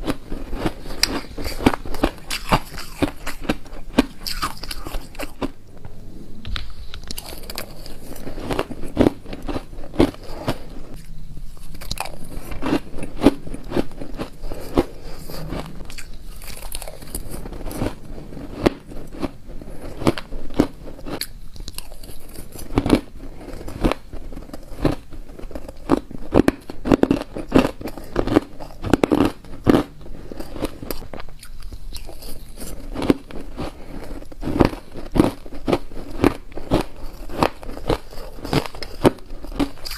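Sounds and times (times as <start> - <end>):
ice being chewed and crunched: 0.0 - 5.6, 6.9 - 39.9.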